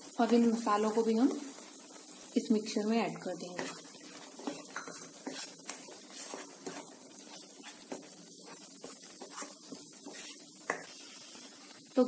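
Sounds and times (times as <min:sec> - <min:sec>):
light sizzle of frying: 0:00.0 - 0:12.0
spatula scraping a pan: 0:01.6 - 0:11.8.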